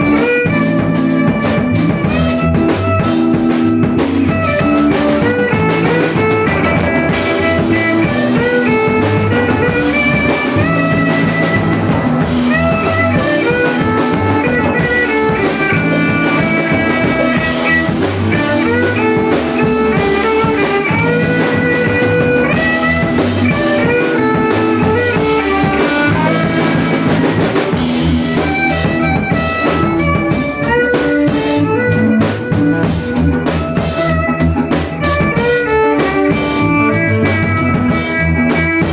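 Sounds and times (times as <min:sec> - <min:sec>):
bass guitar: 0:00.0 - 0:38.9
drum kit: 0:00.0 - 0:38.9
electric guitar melodic lines: 0:00.0 - 0:38.9.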